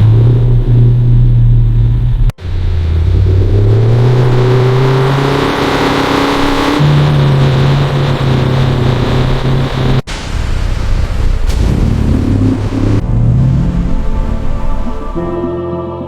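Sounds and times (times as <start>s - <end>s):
car engine revving: 0.0s - 10.1s, 10.9s - 15.6s.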